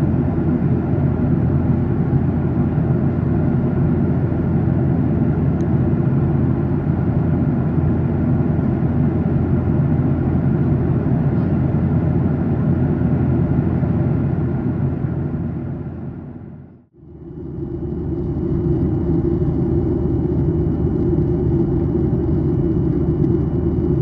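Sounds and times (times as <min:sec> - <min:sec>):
jet engine hum: 0:00.0 - 0:24.0
low humming tones: 0:00.0 - 0:24.0.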